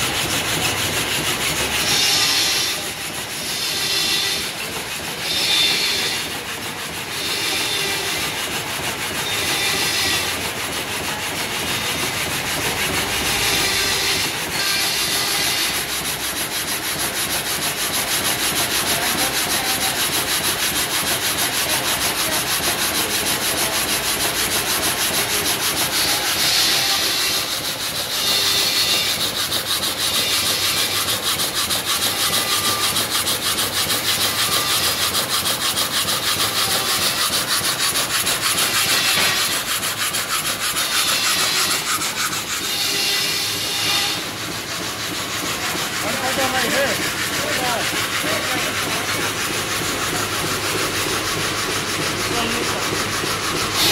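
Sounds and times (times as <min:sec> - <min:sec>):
saw cutting through log: 0:00.0 - 0:53.9.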